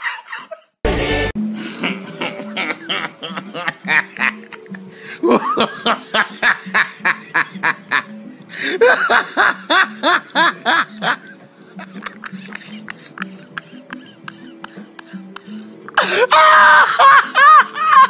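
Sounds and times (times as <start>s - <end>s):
background music: 0.8s - 18.0s
person laughing hard: 1.6s - 18.0s.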